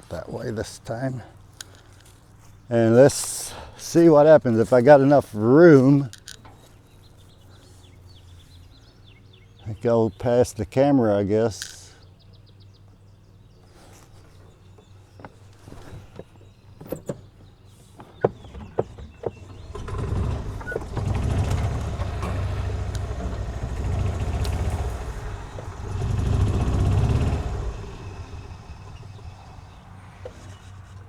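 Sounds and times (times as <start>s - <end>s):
golf cart engine rumble: 0.0s - 31.0s.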